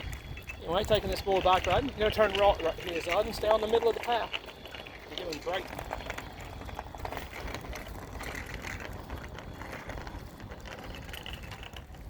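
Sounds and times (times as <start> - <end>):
bicycle rolling along path: 0.0 - 12.0.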